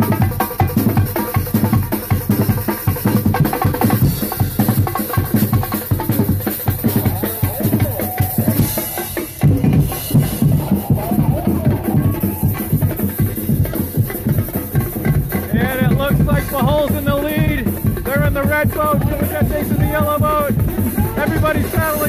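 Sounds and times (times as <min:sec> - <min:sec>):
drum band playing fast beat: 0:00.0 - 0:22.0.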